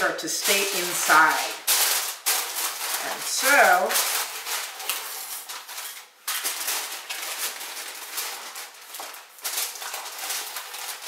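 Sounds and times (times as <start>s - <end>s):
aluminum foil crinkling: 0.0s - 11.0s.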